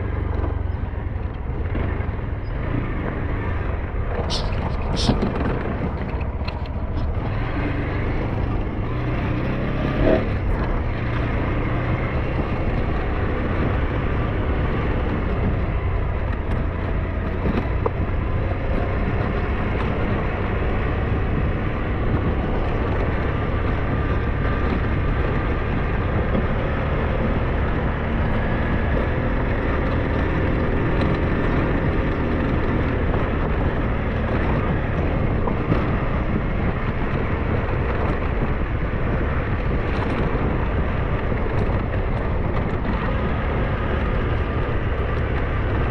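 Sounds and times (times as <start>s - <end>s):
motorcycle engine running: 0.0s - 45.9s
road and wind noise: 0.0s - 45.9s.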